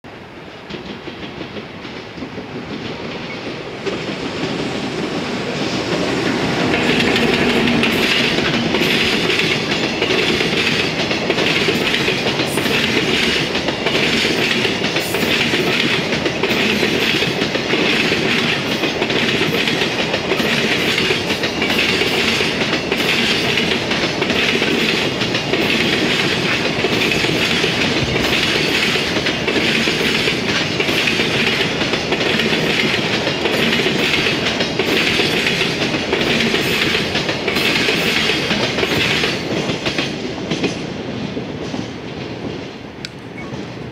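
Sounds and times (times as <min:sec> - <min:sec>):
freight train passing: 0:00.0 - 0:43.9
wheels clacking over rail joints: 0:00.5 - 0:43.9.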